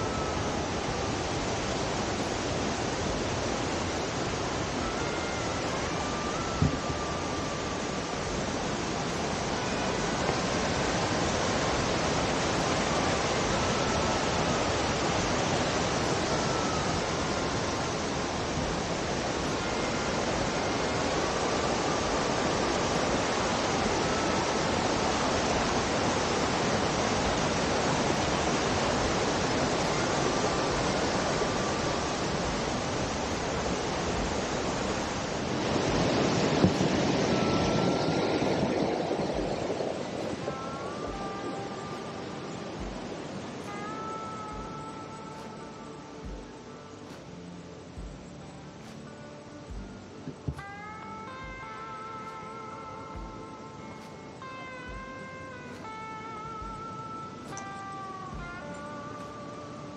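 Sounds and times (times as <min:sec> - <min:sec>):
mountain torrent rushing: 0:00.0 - 0:59.9.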